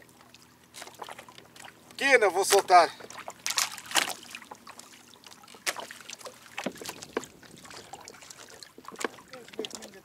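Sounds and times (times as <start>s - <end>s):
small water splashes: 0.0s - 10.0s.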